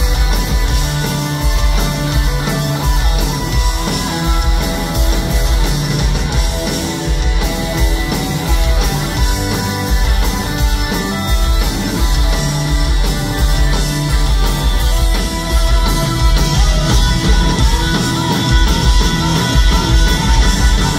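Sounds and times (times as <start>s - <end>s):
bass guitar: 0.0s - 20.9s
distorted electric guitars: 0.0s - 20.9s
drum kit: 0.0s - 20.9s.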